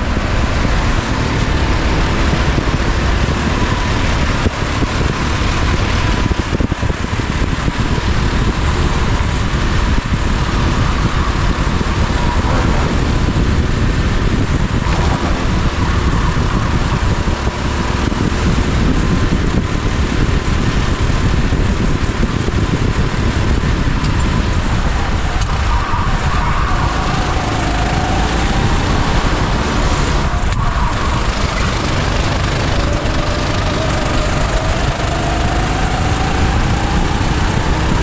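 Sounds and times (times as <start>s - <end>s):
go-kart engine running: 0.0s - 38.0s
steady rush of noise: 0.0s - 38.0s.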